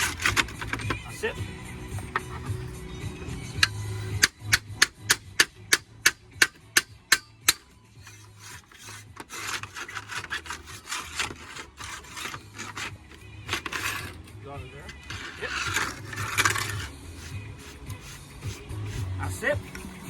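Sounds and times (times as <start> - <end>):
slate scraping on slate: 0.0 - 14.2, 14.8 - 20.0.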